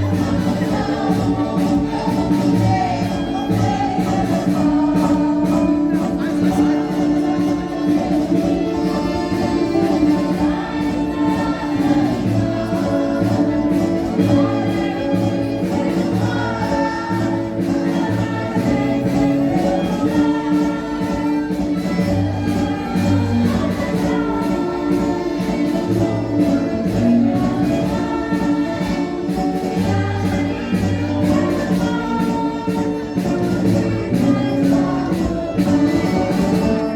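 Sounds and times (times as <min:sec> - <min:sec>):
group singing in chorus: 0:00.0 - 0:36.9
instrumental accompaniment with bass: 0:00.0 - 0:36.9.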